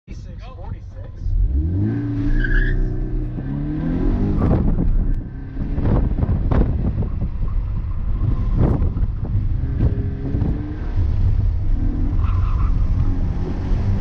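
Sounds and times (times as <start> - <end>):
car engine accelerating hard: 1.2 - 14.0.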